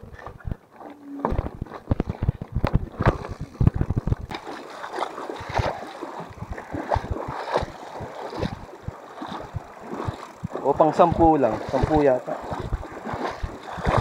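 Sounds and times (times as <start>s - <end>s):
low knocks and thumps: 0.0s - 4.6s, 5.4s - 14.0s
river water splashing: 0.0s - 14.0s.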